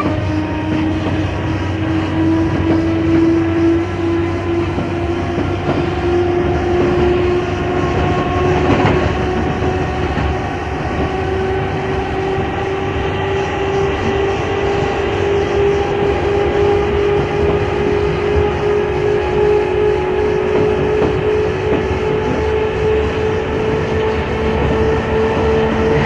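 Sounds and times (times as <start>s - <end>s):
electric train motor whine: 0.0s - 26.0s
train running rumble: 0.0s - 26.0s.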